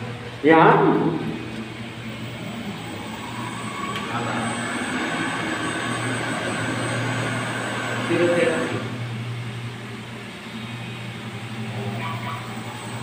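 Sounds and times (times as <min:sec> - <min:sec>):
electric motor hum: 0:00.0 - 0:13.0.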